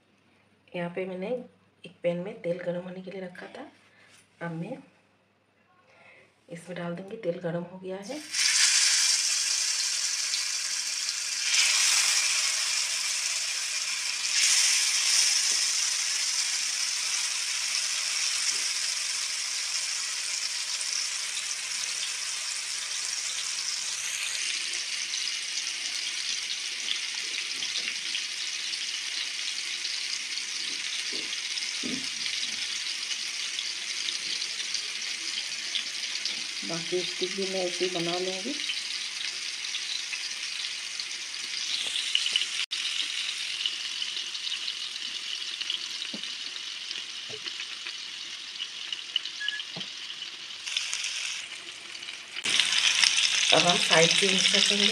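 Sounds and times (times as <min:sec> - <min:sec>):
meat sizzling in hot oil: 0:08.2 - 0:54.9.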